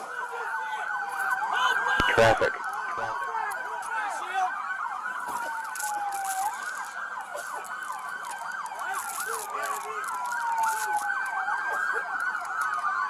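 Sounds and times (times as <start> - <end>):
police sirens wailing and yelping: 0.0 - 13.0.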